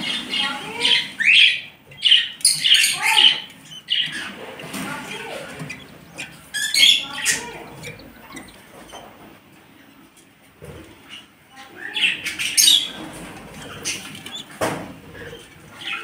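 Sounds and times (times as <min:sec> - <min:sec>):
nestling birds squawking: 0:00.0 - 0:09.3, 0:12.0 - 0:16.0.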